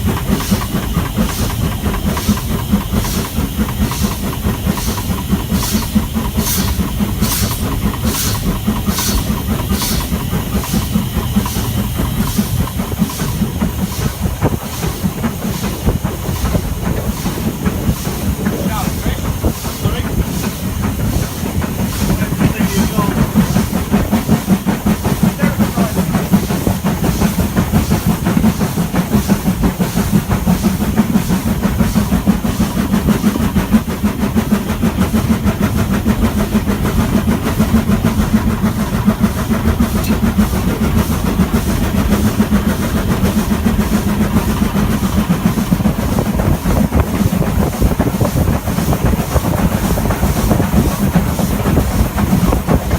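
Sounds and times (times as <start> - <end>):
steam hissing: 0.0 - 52.9
train wheels rumbling on rail: 0.0 - 52.9.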